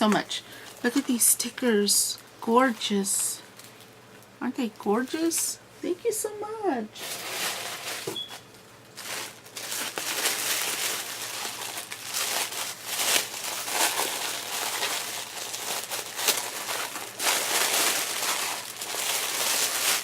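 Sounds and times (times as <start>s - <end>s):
packaging crinkling and rustling: 0.0s - 4.4s, 7.0s - 20.0s.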